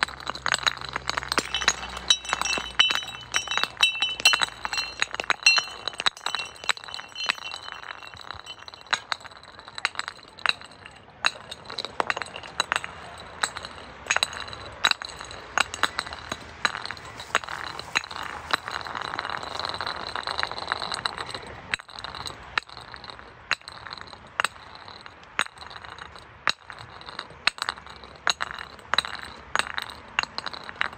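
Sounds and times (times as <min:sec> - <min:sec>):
glass clinking against glass: 0:00.0 - 0:30.9.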